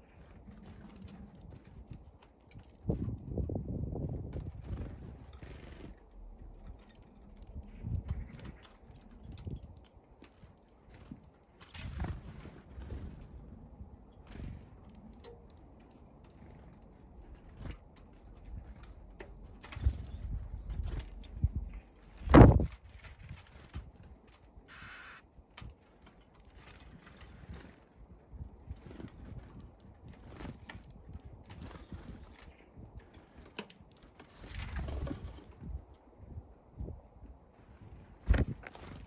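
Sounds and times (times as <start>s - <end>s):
birds pecking on feeder: 0.0s - 35.6s.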